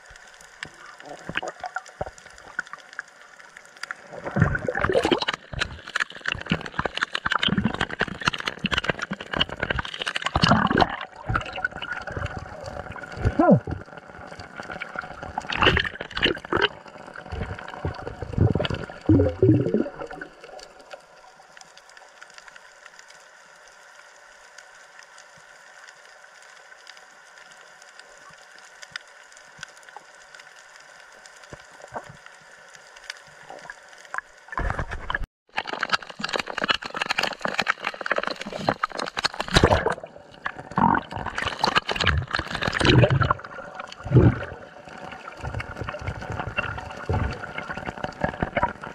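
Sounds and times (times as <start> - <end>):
water splashing and gurgling: 0.0 - 21.4, 29.4 - 48.9.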